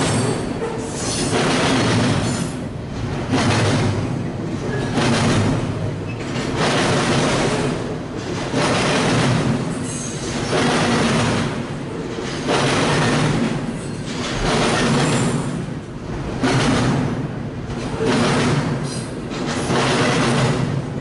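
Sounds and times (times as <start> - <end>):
freight train wheels rumbling and clattering: 0.0 - 21.0.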